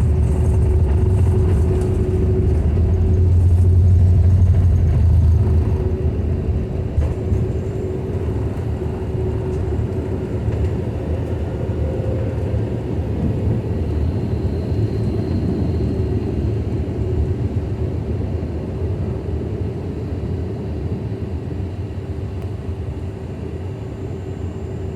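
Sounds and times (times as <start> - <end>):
jet engines rumbling: 0.0 - 24.4.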